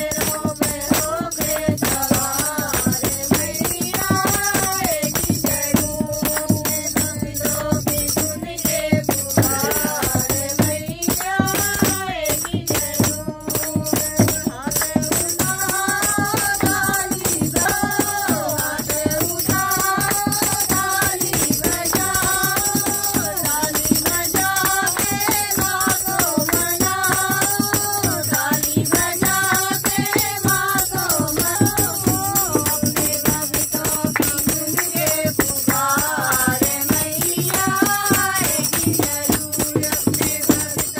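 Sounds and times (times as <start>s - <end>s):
group singing devotional song: 0.0s - 40.9s
hand percussion: 0.0s - 40.9s.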